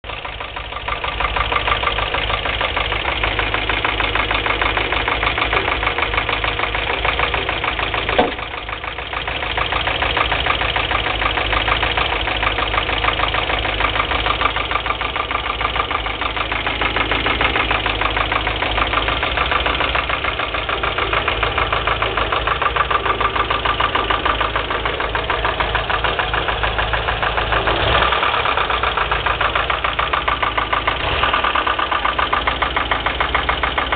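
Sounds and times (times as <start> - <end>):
petrol engine idling with knock: 0.0 - 33.9.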